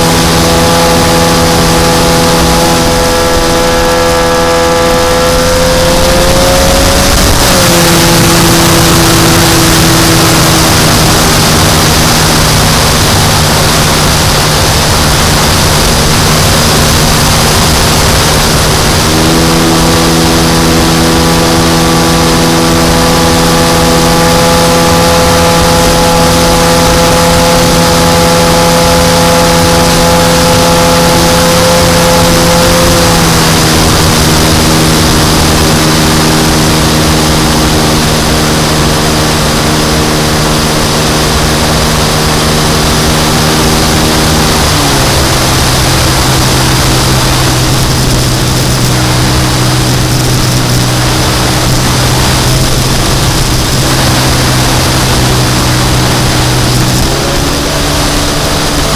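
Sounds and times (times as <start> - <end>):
model airplane engine running: 0.0 - 58.9
wind rushing over microphone: 0.0 - 58.9.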